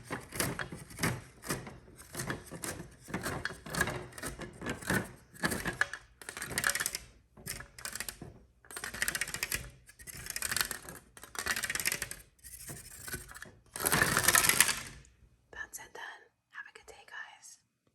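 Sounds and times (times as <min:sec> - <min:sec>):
fingers tapping and scratching: 0:00.0 - 0:15.0.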